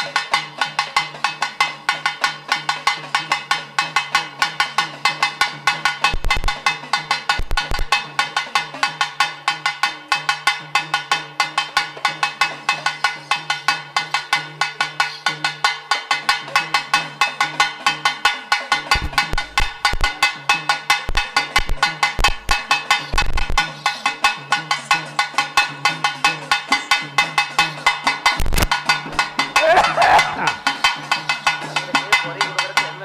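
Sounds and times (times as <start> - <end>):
folk drum and metal percussion: 0.0 - 33.0.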